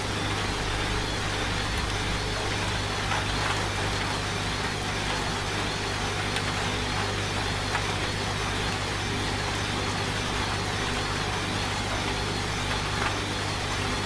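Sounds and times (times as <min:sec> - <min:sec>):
rain hissing: 0:00.0 - 0:14.0
washing machine humming: 0:00.0 - 0:14.0.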